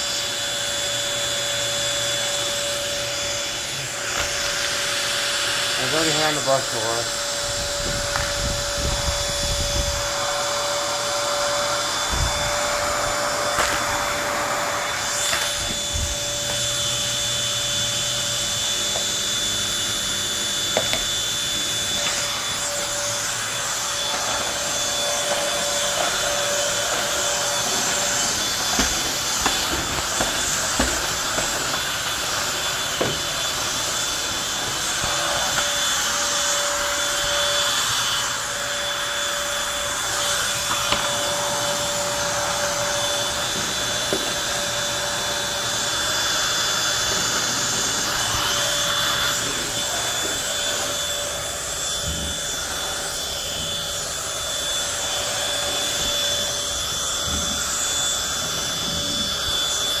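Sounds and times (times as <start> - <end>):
stick vacuum running over carpet: 0.0 - 60.0.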